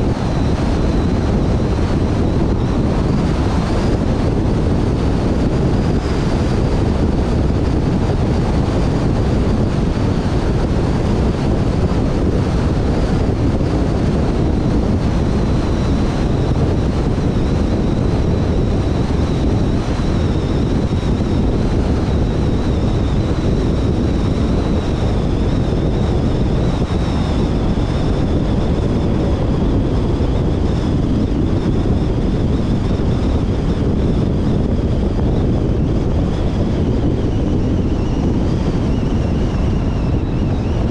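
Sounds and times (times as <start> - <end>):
faint high whine: 0.0 - 40.9
wind rush: 0.0 - 40.9.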